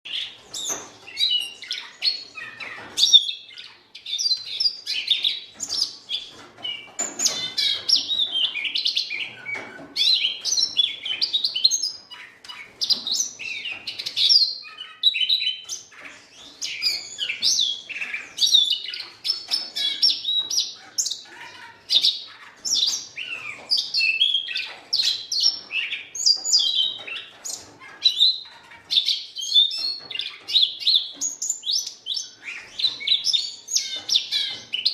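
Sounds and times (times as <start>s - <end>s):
bird warbling song: 0.1s - 34.9s.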